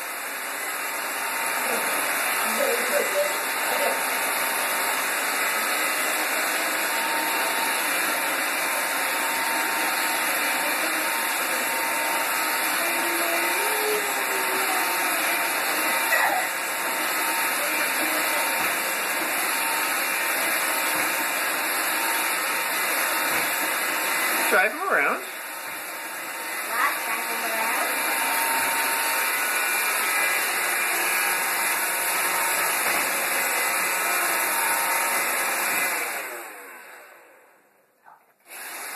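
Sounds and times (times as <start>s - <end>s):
robot vacuum whirring: 0.0s - 37.4s.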